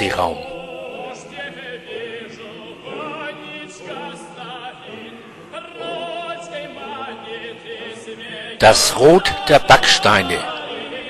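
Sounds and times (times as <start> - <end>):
operatic singing: 0.0 - 11.0.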